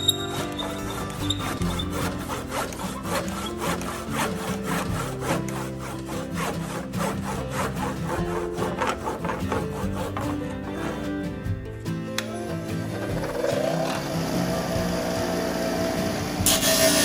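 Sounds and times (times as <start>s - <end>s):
wood being sawn: 0.0s - 11.6s, 12.8s - 17.0s
background music: 0.0s - 17.0s.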